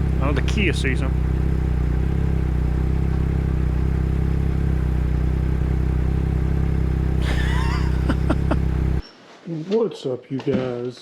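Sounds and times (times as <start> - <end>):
motorcycle engine running steadily: 0.0 - 9.0.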